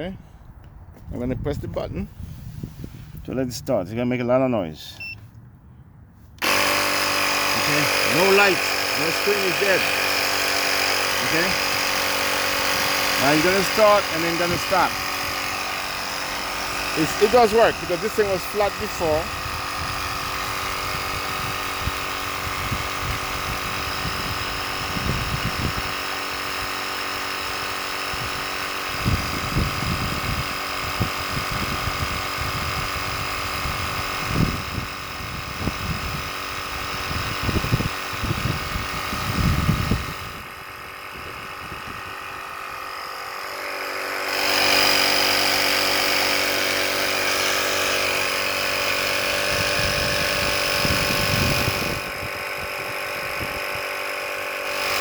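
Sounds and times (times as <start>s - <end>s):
air compressor buzzing hum: 2.1s - 3.3s, 6.2s - 55.0s.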